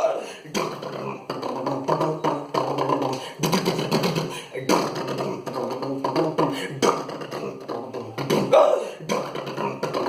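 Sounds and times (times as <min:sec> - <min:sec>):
beatbox vocal mimicry: 0:00.0 - 0:10.0.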